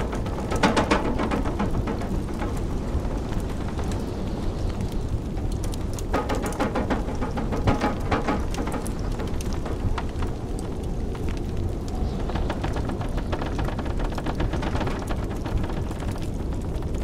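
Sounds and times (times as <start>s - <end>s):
low rumble of blizzard wind: 0.0s - 17.0s
wood fire crackling and popping: 0.0s - 17.0s.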